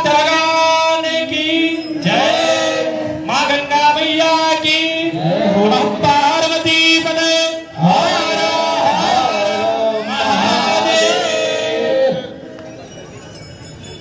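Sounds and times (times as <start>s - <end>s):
man chanting: 0.0s - 12.4s.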